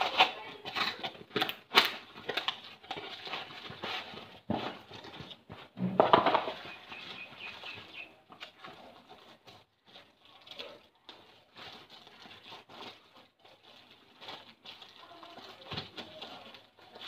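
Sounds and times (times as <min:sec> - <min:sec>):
plastic wrap crinkling: 0:00.0 - 0:17.0.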